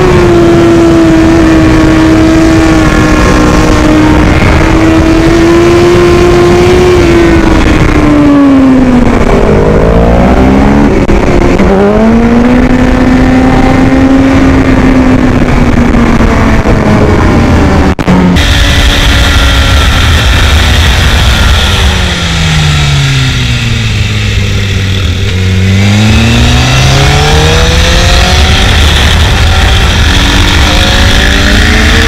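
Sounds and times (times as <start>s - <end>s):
motorcycle engine at high revs: 0.0s - 32.0s
wind noise on microphone: 0.0s - 32.0s.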